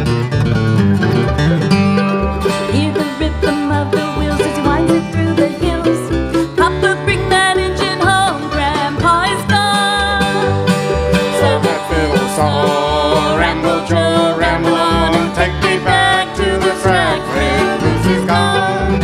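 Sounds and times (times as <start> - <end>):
banjo picking: 0.0 - 19.0
bass line: 0.0 - 19.0
guitar: 0.0 - 19.0.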